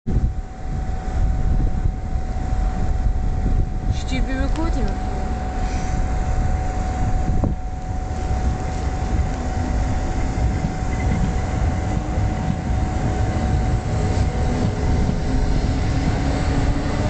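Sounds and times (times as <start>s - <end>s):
train wheels rumbling on rails: 0.0s - 17.0s
thin steady whine: 0.1s - 17.0s.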